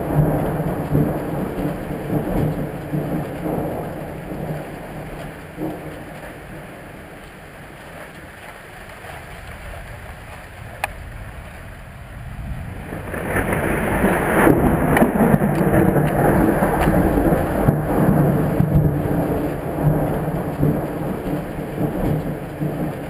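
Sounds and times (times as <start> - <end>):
rolling thunder: 0.0 - 7.8, 9.3 - 23.0
rain: 0.0 - 23.0.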